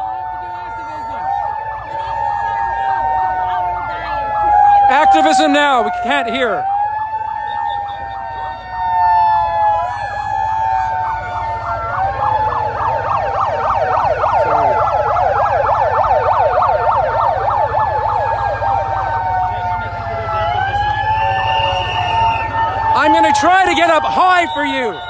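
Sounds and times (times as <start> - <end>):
fast siren yelp: 0.0 - 25.0
megaphone sirens wailing: 0.0 - 25.0
steady high siren tone: 0.0 - 25.0.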